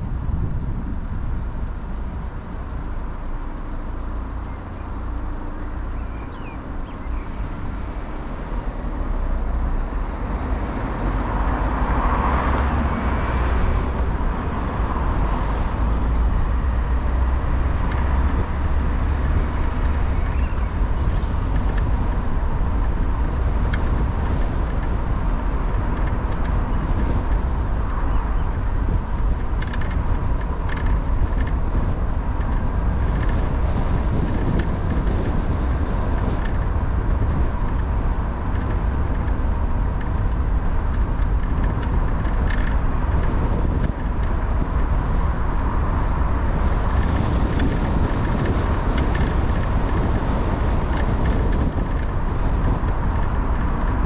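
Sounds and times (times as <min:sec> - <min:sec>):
car driving on road: 0:00.0 - 0:54.0.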